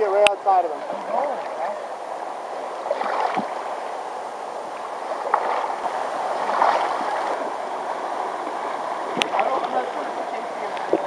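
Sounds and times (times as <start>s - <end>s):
river current over riffles: 0.0s - 11.0s.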